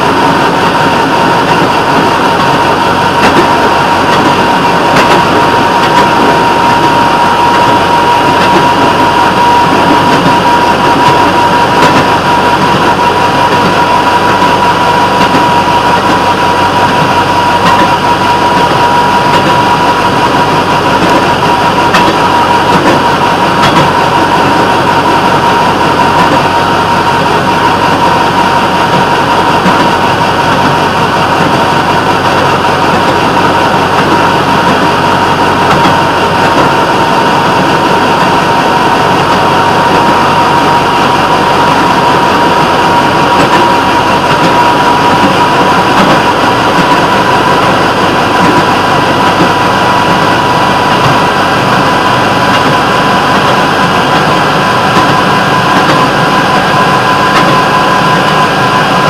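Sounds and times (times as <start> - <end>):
high whine: 0.0 - 59.0
rail motorcar engine: 0.0 - 59.0
wheels on rail: 0.0 - 59.0.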